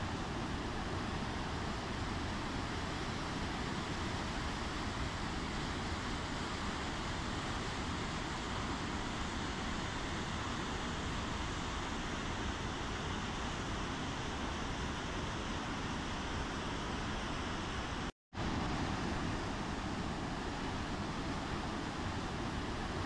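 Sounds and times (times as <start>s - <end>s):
waterfall rushing over boulders: 0.0s - 23.0s.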